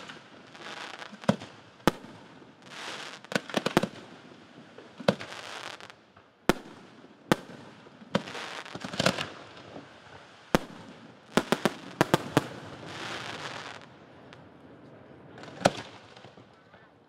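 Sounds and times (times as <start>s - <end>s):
crackling hiss: 0.0s - 16.8s.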